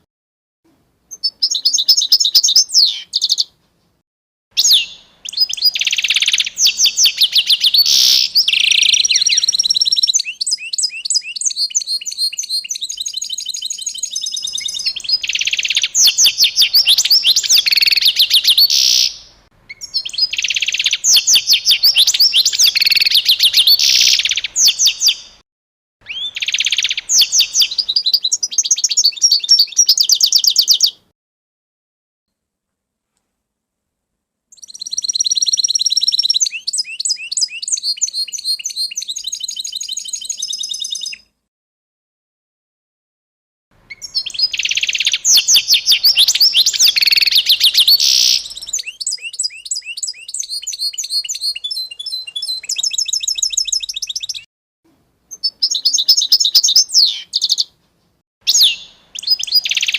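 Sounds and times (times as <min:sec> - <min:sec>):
songbird chirping and trilling: 0:01.1 - 0:03.6, 0:04.6 - 0:25.4, 0:26.0 - 0:31.1, 0:34.5 - 0:41.3, 0:43.8 - 0:54.5, 0:55.3 - 0:57.8, 0:58.5 - 0:59.9.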